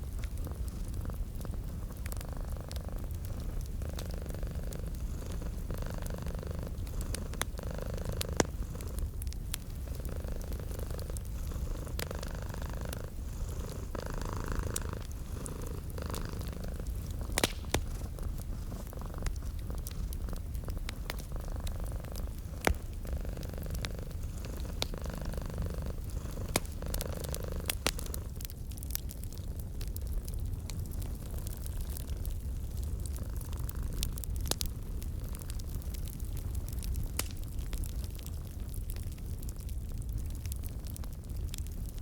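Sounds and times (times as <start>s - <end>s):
cat purring: 0.0s - 36.9s
wood fire crackling: 0.0s - 42.0s.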